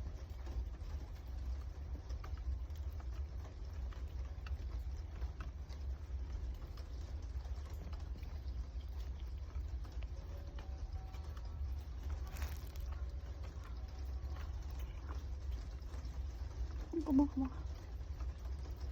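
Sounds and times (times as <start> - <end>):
cat chewing food: 0.6 - 18.9.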